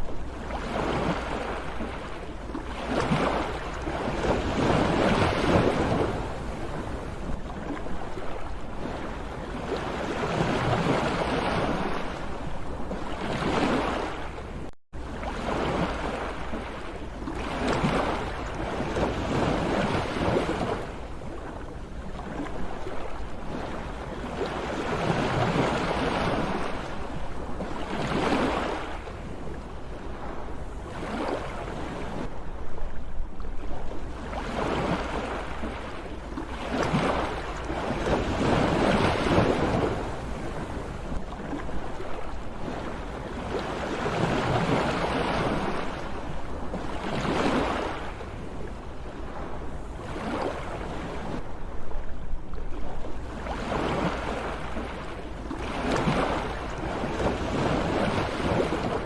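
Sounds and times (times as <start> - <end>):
sea waves washing in: 0.0 - 59.0.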